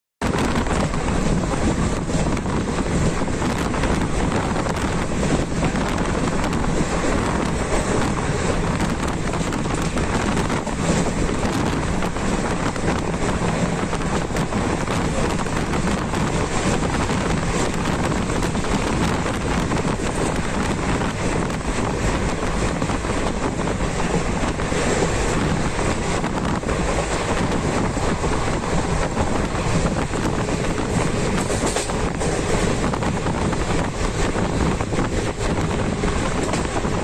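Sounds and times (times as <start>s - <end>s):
train wheel and rail noise: 0.2s - 37.0s
wind buffeting the microphone: 0.2s - 37.0s.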